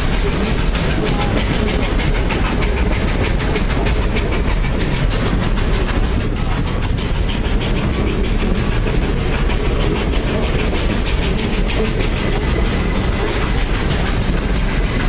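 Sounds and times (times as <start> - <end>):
train car rumbling: 0.0 - 15.0
wheels clicking and rattling: 0.0 - 15.0.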